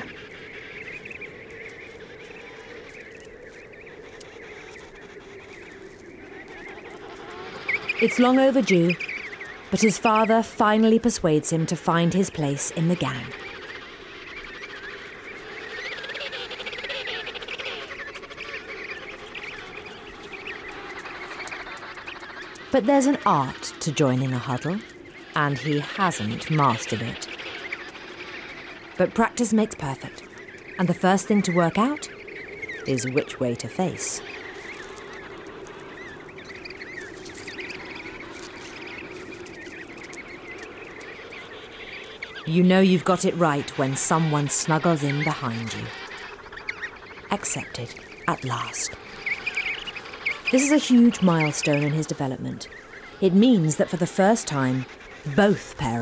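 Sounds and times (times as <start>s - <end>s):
penguin chicks whistling: 0.0s - 56.0s
penguin colony calls: 0.0s - 56.0s.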